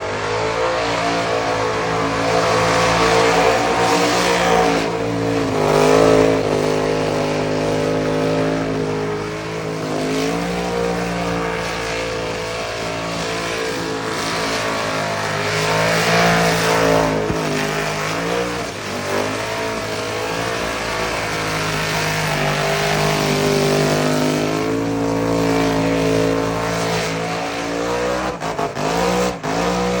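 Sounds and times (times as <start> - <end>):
truck engine revving hard: 0.0 - 30.0.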